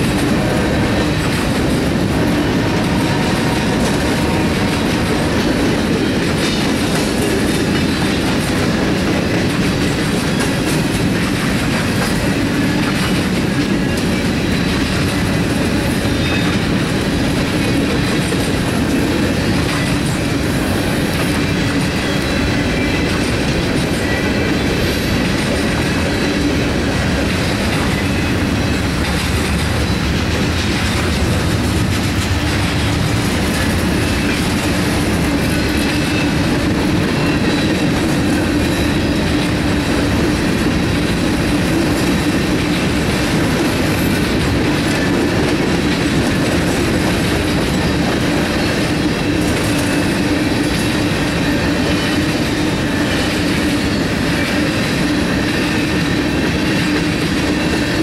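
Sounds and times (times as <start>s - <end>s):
freight train rumbling: 0.0s - 58.0s
steel wheels clattering on rails: 0.0s - 58.0s.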